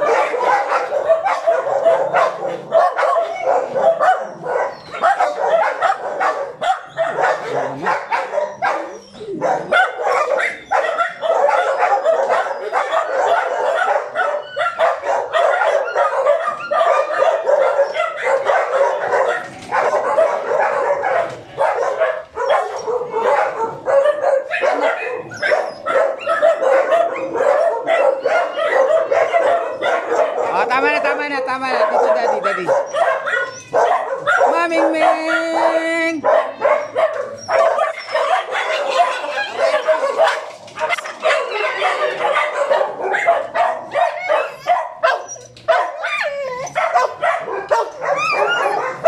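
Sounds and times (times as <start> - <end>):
many dogs barking and yipping: 0.0 - 49.0.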